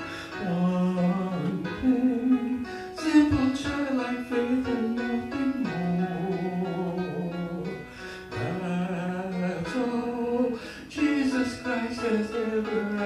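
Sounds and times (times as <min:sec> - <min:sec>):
piano accompaniment: 0:00.0 - 0:13.0
man singing long notes: 0:00.3 - 0:13.0.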